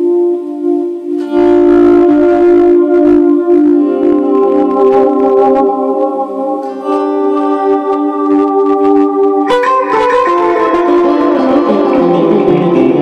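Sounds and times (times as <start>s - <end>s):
electric guitar sustained chords: 0.0s - 13.0s.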